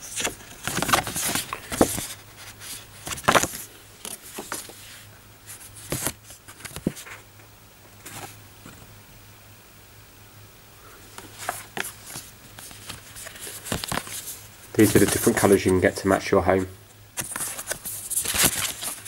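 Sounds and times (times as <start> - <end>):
paper rustling: 0.0 - 7.2, 8.0 - 8.9, 11.2 - 19.0.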